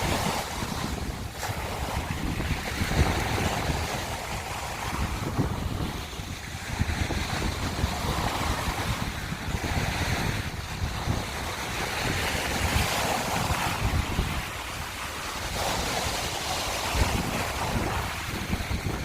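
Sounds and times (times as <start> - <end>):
small waves washing over shells: 0.0 - 19.0
wind rumbling on microphone: 0.0 - 19.0.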